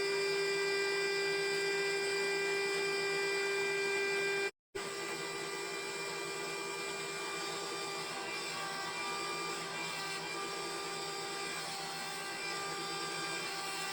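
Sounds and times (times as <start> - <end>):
sawmill machinery whine: 0.0 - 13.9.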